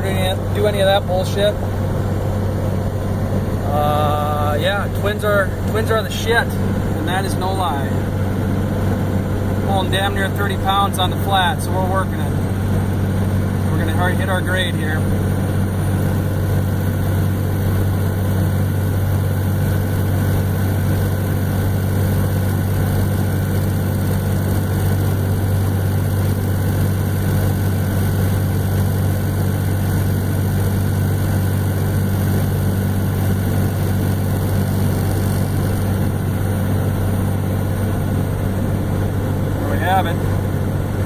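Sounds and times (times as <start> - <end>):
diesel truck engine droning: 0.0 - 41.0.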